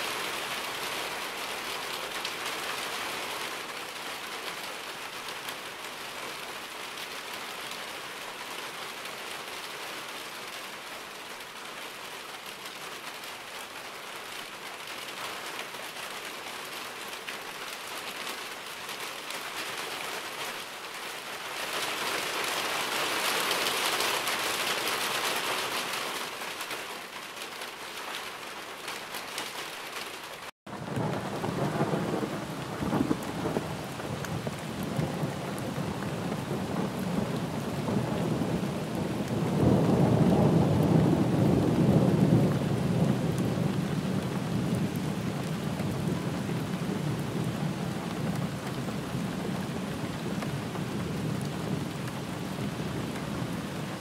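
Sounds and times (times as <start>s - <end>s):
deeper uneven rain: 0.0s - 54.0s
steady rainfall: 0.0s - 54.0s.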